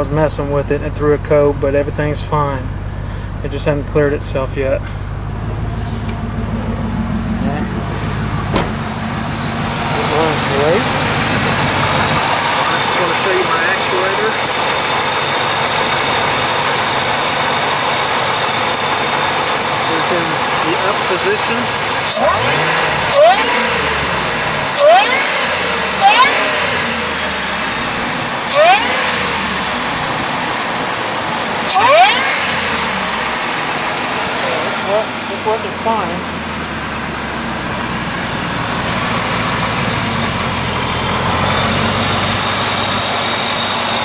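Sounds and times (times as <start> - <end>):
engine idling and revving: 0.0 - 44.0
supercharger whine: 0.0 - 44.0.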